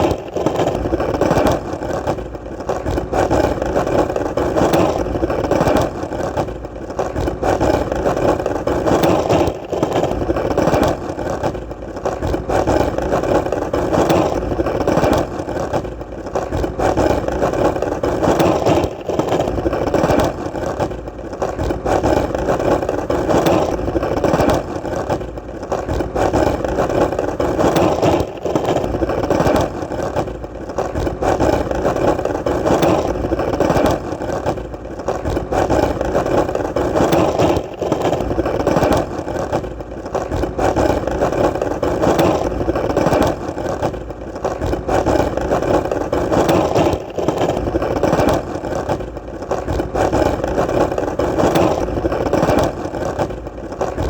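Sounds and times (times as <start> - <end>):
skateboard wheels rolling: 0.0 - 54.0.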